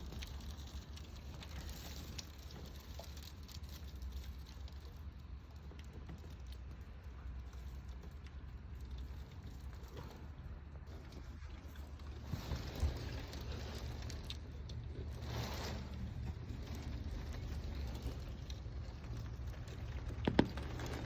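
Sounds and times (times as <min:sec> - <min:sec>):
hail and rain on a window: 0:00.0 - 0:21.0.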